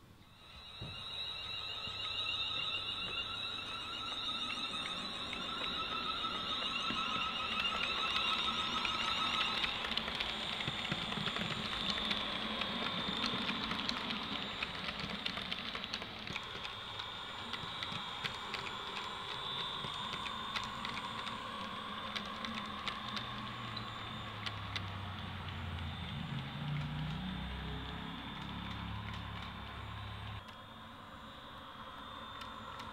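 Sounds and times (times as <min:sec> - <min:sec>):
high motor whine: 0:00.0 - 0:32.9
low hum: 0:00.0 - 0:32.9
model train wheels clicking: 0:01.3 - 0:30.6.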